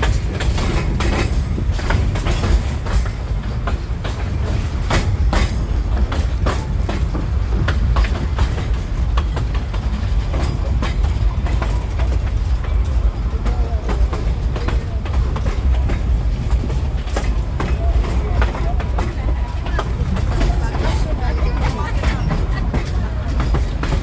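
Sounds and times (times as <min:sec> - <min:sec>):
steam train rumbling: 0:00.0 - 0:24.0
wheels clicking and clacking: 0:00.0 - 0:24.0.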